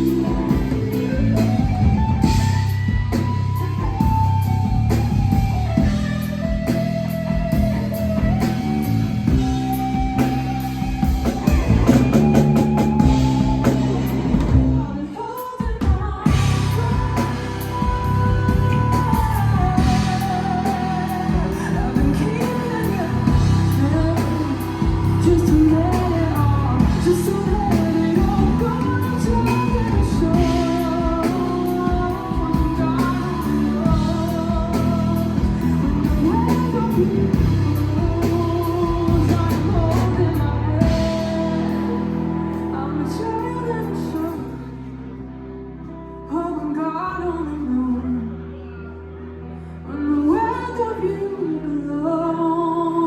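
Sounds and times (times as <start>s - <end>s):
person singing: 0.0s - 45.2s, 46.2s - 53.0s
pop-rock band playing: 0.0s - 51.7s.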